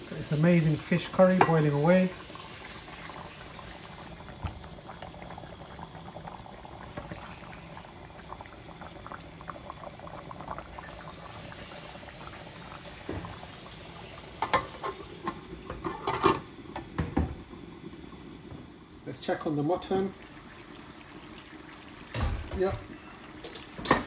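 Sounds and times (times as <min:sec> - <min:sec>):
curry bubbling in a pot: 0:00.0 - 0:24.0.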